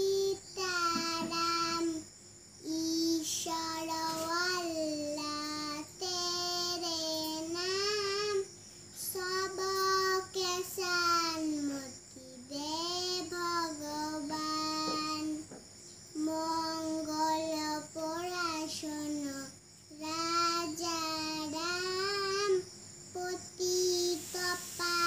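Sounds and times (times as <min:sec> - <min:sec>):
girl singing unaccompanied: 0:00.0 - 0:25.0.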